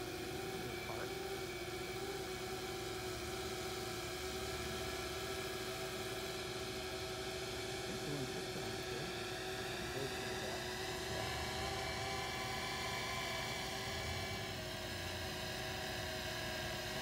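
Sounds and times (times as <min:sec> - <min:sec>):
electric propellers humming: 0:00.0 - 0:17.0.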